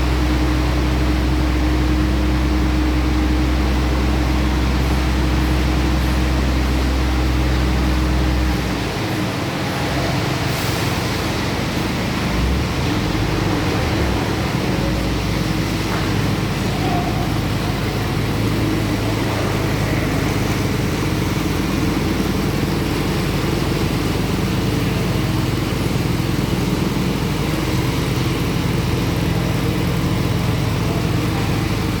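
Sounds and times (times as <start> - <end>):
power trowel engine running: 0.0 - 32.0.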